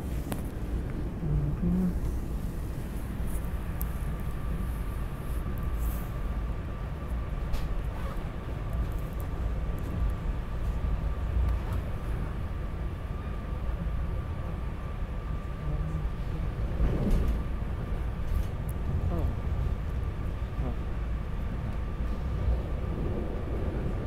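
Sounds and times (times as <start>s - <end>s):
train low rumble: 0.0s - 24.0s.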